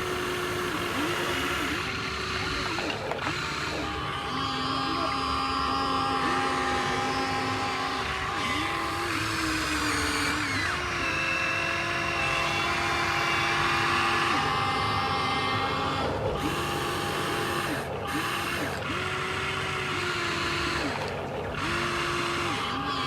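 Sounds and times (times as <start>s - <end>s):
electric gear motors whining: 0.0s - 23.0s.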